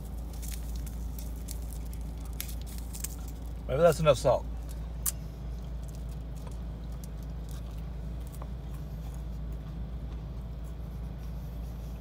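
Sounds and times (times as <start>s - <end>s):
person chewing: 0.0s - 3.7s, 4.5s - 12.0s
low hum inside a car: 0.0s - 12.0s.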